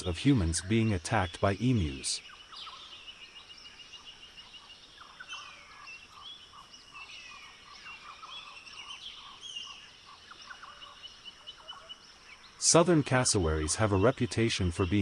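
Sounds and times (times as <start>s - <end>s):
light outdoor hiss: 0.0s - 15.0s
small birds chirping and whistling: 0.0s - 15.0s.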